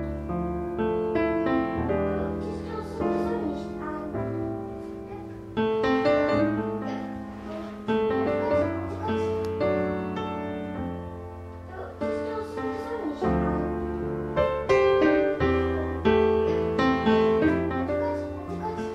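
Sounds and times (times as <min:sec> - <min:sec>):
piano chords: 0:00.0 - 0:18.9.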